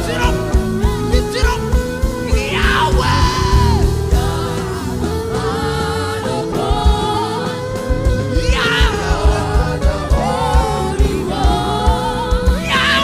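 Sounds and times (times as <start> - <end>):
gospel choir singing: 0.0 - 13.0
steady drum beat: 0.0 - 13.0.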